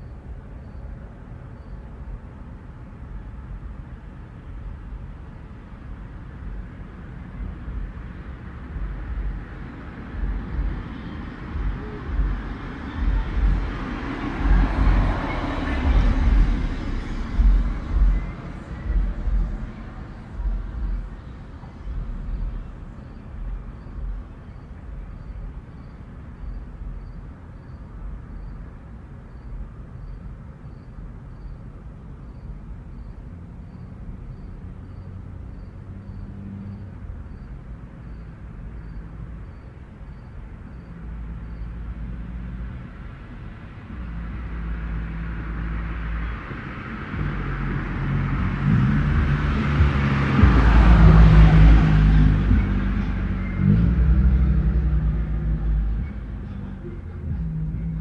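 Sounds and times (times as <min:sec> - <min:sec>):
cricket chirping: 0:00.0 - 0:03.7, 0:06.5 - 0:58.0
distant road traffic rumble: 0:00.0 - 0:58.0
vehicle approaching: 0:05.8 - 0:58.0.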